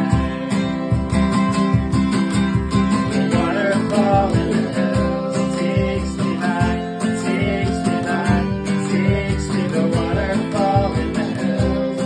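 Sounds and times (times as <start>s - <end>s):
person singing: 0.0s - 12.0s
strummed acoustic guitar: 0.0s - 12.0s.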